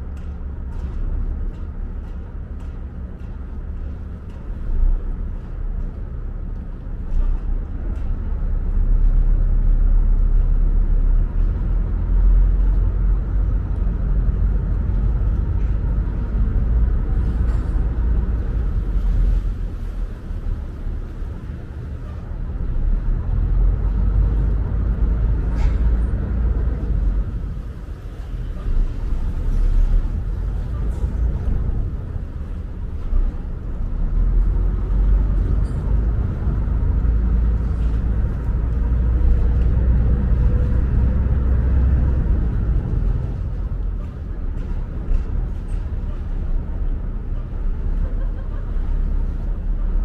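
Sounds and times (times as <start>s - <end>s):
heavy engine rumble: 0.0s - 50.0s.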